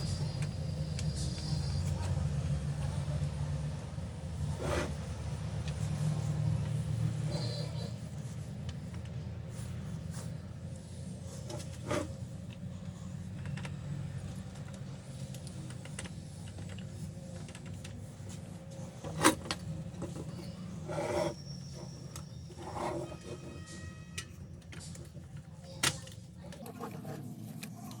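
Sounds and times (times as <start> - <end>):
low mechanical drone: 0.0 - 28.0.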